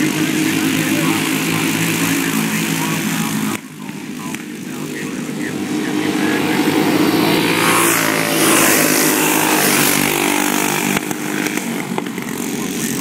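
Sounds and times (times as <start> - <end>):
racing karts passing by: 0.0 - 13.0.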